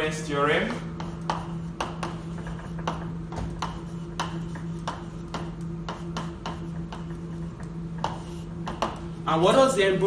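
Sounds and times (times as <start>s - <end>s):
steady low hum: 0.0s - 10.0s
chalk tapping and scraping on blackboard: 0.7s - 9.2s.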